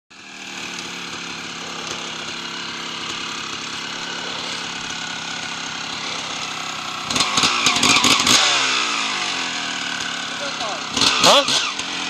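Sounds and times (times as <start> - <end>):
two-stroke engine idling: 0.1 - 12.0.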